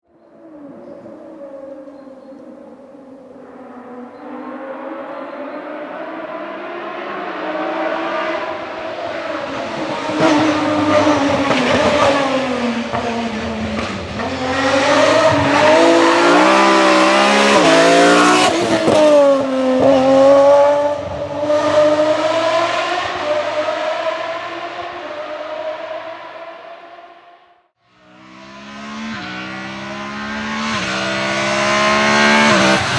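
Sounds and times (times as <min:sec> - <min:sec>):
rally car engine revving: 0:03.4 - 0:27.2, 0:27.9 - 0:32.9.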